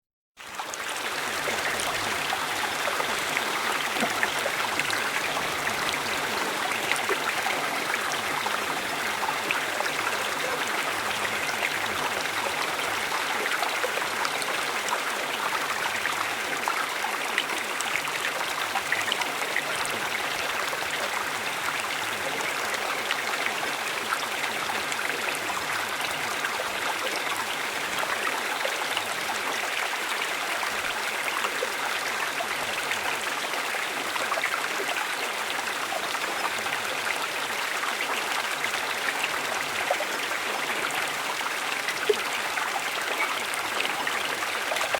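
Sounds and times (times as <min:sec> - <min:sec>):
stream flowing over stones: 0:00.4 - 0:44.9.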